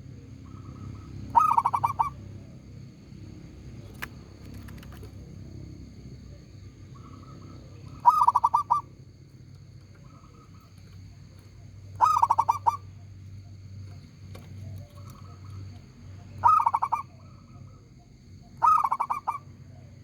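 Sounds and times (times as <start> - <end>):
dove cooing: 0.0 - 2.8, 3.7 - 20.0.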